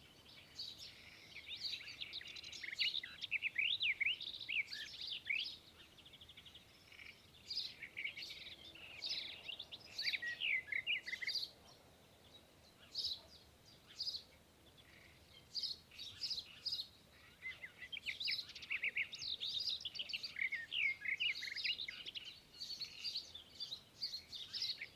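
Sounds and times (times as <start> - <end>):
birds chirping: 0.0 - 24.9.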